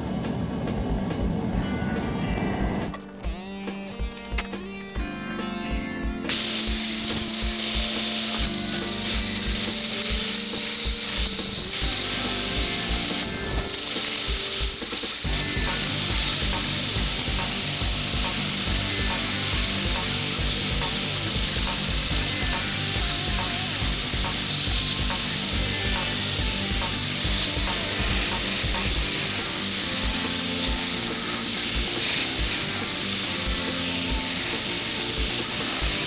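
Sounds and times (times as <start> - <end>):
belt grinder grinding metal: 6.3 - 36.0.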